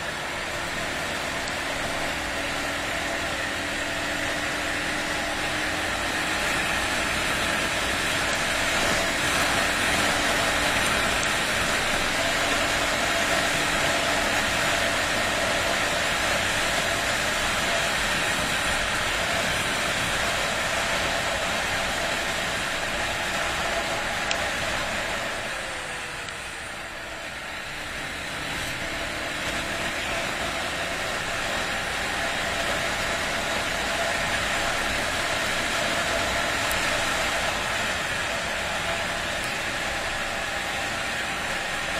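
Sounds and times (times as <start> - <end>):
dirt bike engine cruising: 0.0 - 41.9.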